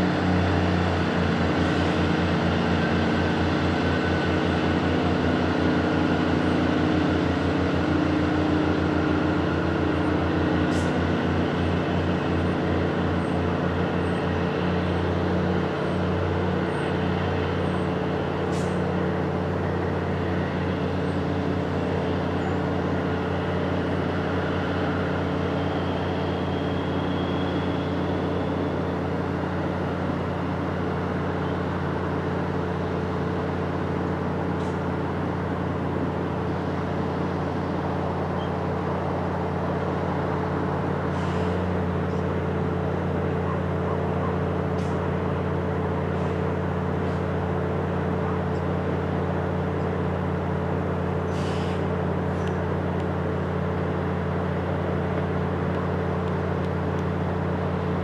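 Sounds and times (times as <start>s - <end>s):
diesel train engine idling: 0.0s - 58.0s.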